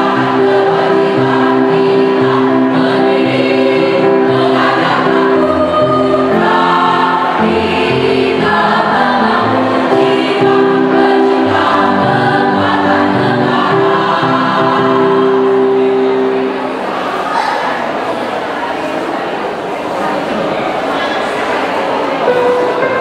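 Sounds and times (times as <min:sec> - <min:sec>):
mixed choir singing in harmony: 0:00.0 - 0:23.0.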